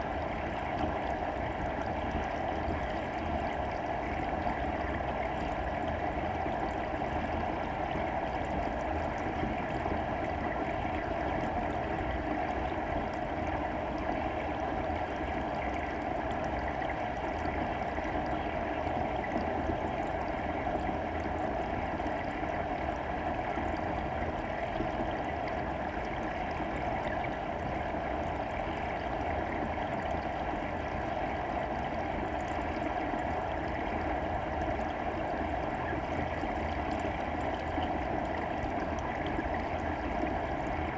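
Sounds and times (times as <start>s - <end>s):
muffled underwater rushing water: 0.0s - 40.9s.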